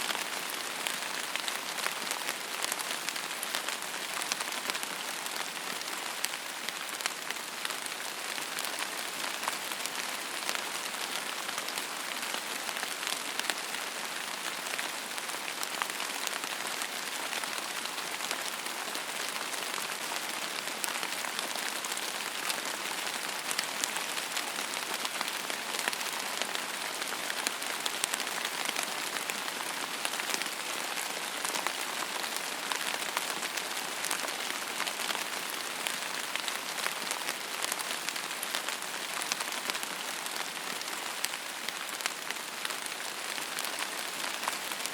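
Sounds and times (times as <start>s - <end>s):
rain pattering on a surface: 0.0s - 44.9s.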